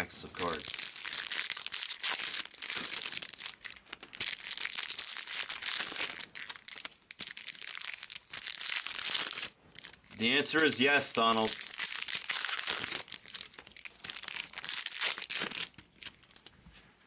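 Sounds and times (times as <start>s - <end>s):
plastic foil wrapper crinkling: 0.3s - 16.6s.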